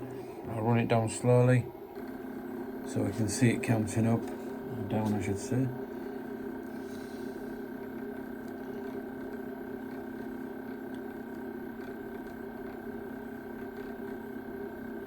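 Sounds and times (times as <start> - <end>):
stepper motor humming: 0.0 - 15.0.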